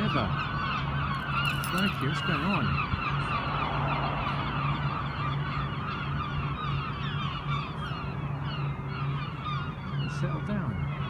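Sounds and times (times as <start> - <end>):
flock of gulls calling: 0.0 - 11.0
steady low hum: 0.0 - 11.0.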